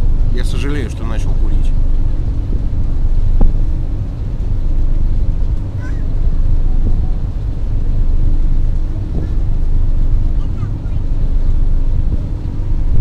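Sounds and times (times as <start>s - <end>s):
boat engine drone: 0.0s - 13.0s
wind rumbling on microphone: 0.0s - 13.0s.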